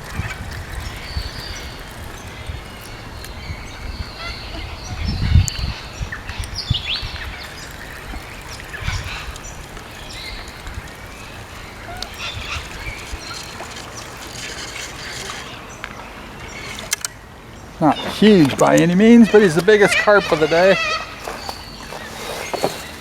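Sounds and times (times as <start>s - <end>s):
birds calling and chirping: 0.0s - 23.0s.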